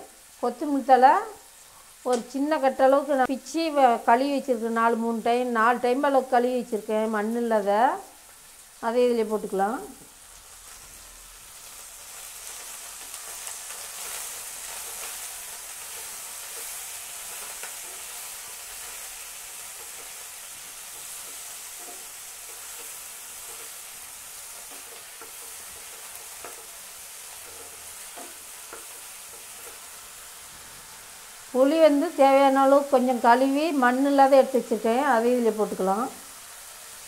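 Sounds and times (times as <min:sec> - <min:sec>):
vegetables sizzling in oil: 0:00.0 - 0:37.0.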